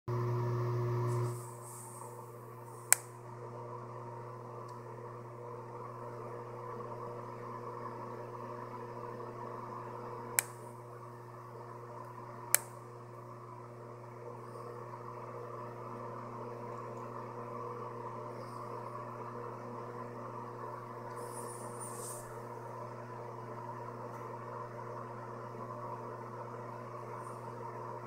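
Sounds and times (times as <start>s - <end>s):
low machine hum: 0.1s - 28.0s.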